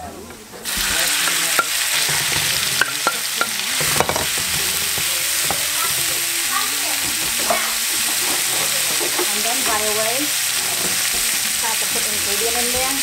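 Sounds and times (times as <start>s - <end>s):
meat sizzling in hot oil: 0.6s - 13.0s.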